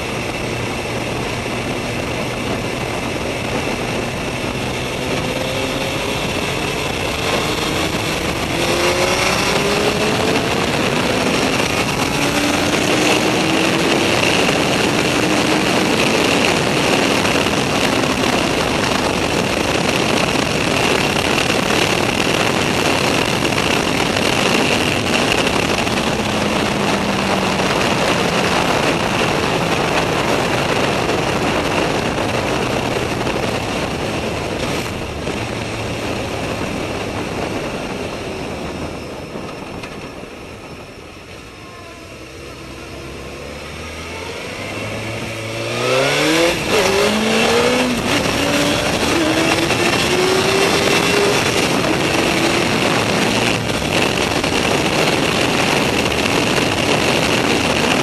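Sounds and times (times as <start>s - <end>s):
gear changes: 0.0s - 58.0s
motorcycle engine revving: 0.0s - 58.0s
wind rush: 0.0s - 58.0s.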